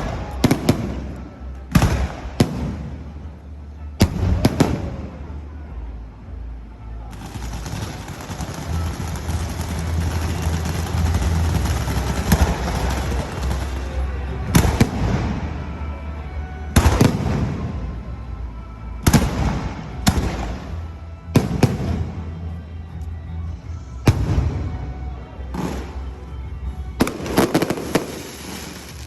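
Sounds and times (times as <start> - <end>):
fireworks crackling and banging: 0.0 - 5.4, 7.0 - 18.4, 19.0 - 23.1, 24.0 - 29.0.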